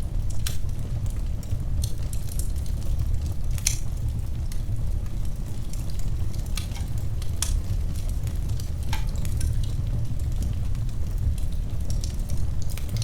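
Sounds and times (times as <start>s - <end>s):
fire crackling: 0.0s - 13.0s.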